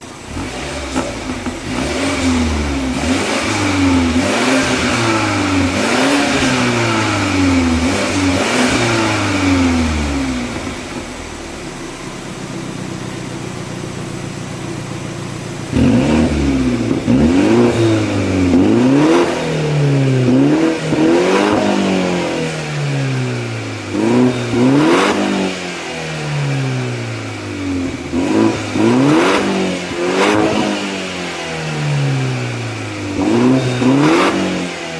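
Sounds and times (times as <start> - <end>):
car exhaust revving: 0.0 - 34.9.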